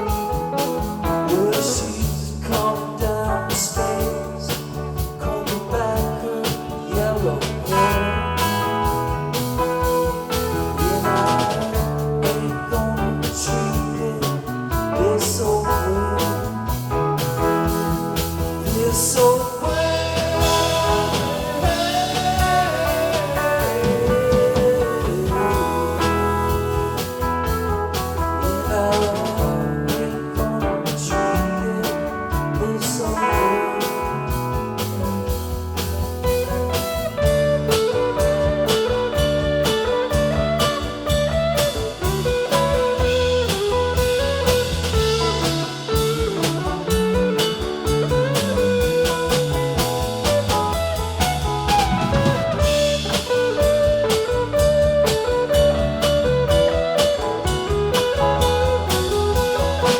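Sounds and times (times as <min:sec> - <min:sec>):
pitch-bending lead guitar line: 0:00.0 - 0:59.9
rock band playing: 0:00.0 - 0:59.9.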